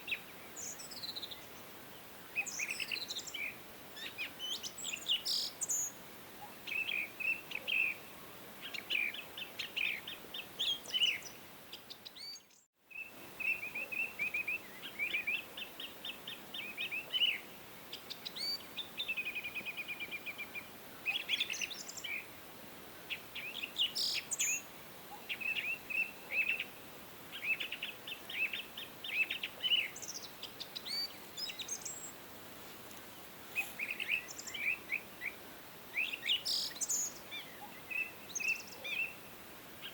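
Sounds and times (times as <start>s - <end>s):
songbirds singing and chirping: 0.0s - 22.4s, 23.0s - 39.9s
faint background hiss: 0.0s - 39.9s.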